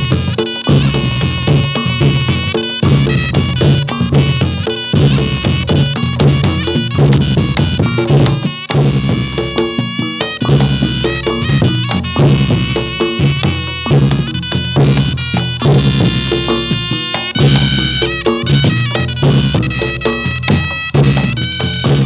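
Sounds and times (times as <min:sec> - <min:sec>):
reedy shawm melody: 0:00.0 - 0:22.0
steady drumming: 0:00.0 - 0:22.0
struck pitched percussion: 0:00.0 - 0:22.0.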